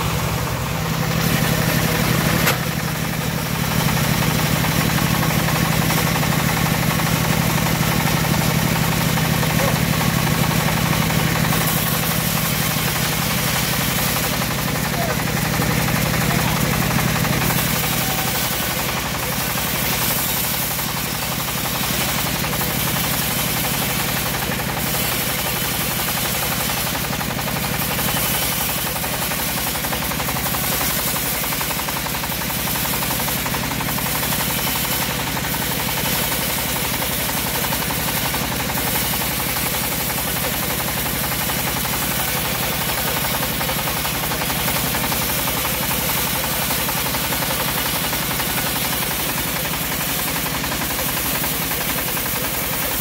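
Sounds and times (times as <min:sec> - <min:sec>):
bandsaw cutting through log: 0:00.9 - 0:53.0.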